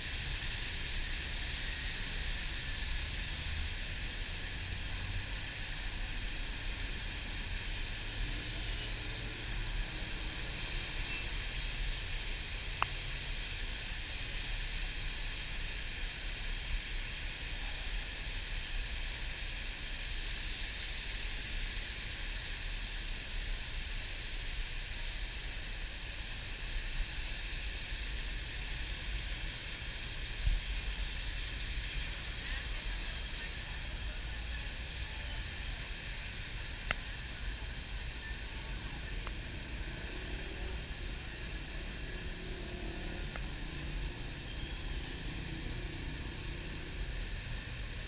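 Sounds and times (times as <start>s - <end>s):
rain and wet road hiss: 0.0s - 48.0s.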